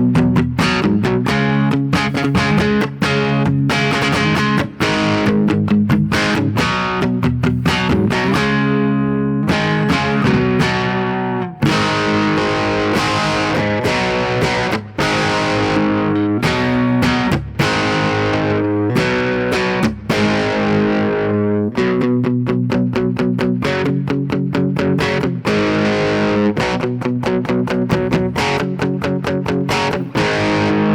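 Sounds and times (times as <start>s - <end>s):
overdriven electric guitar chords: 0.0s - 30.9s
picked guitar rhythm bursts: 0.0s - 30.9s.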